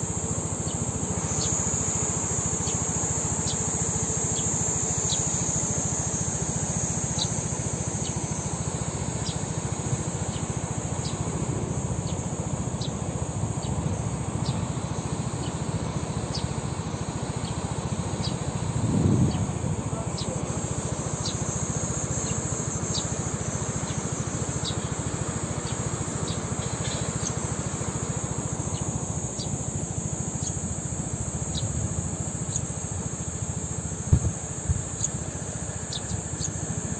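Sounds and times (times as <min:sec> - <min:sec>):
high insect drone: 0:00.0 - 0:36.9.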